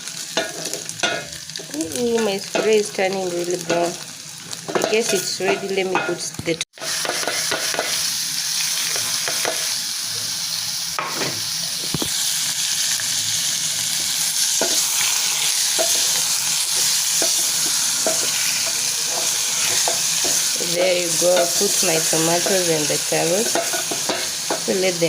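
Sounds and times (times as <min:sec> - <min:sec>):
beef sizzling in a metal pot: 0:00.0 - 0:25.0.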